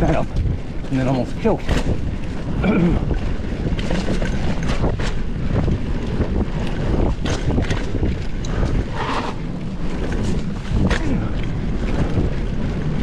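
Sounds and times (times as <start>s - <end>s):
bike rattling and knocking: 0.0s - 13.0s
wind buffeting microphone: 0.0s - 13.0s.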